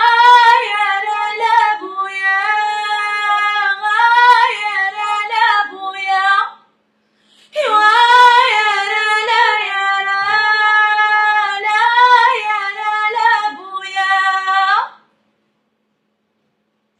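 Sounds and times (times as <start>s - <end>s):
woman singing unaccompanied: 0.0s - 6.7s, 7.5s - 15.1s.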